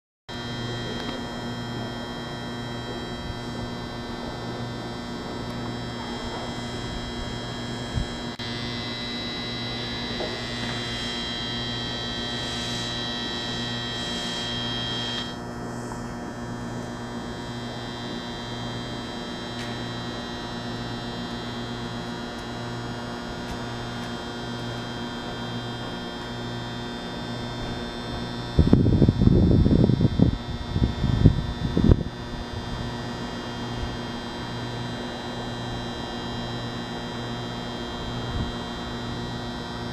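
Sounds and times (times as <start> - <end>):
electrical hum with pulsing drone: 0.3 - 39.9
high whining tones: 0.3 - 39.9.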